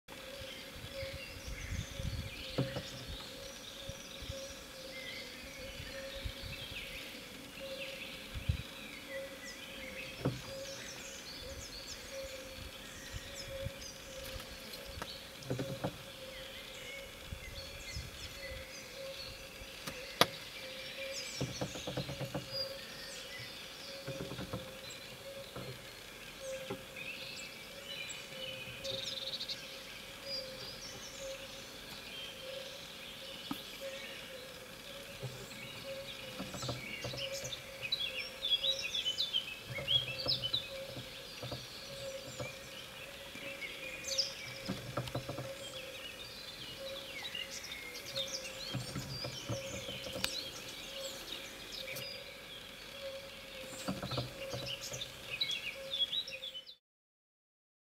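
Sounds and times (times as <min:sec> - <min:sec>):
forest birds singing: 0:00.1 - 0:56.8.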